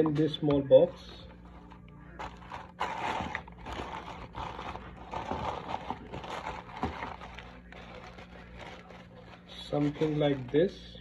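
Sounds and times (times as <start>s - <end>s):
paper coffee filter crinkling: 1.4s - 11.0s.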